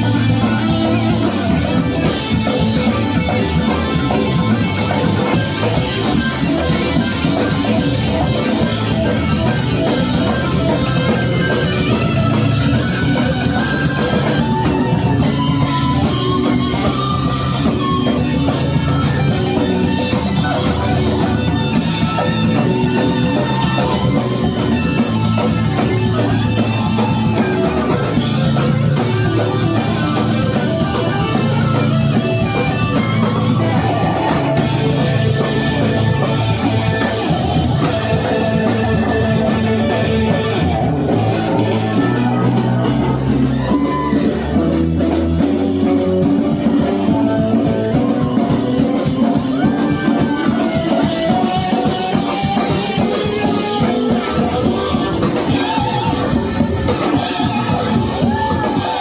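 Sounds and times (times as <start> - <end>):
bass guitar: 0.0 - 59.0
drum kit: 0.0 - 59.0
electric guitar lines: 0.0 - 59.0.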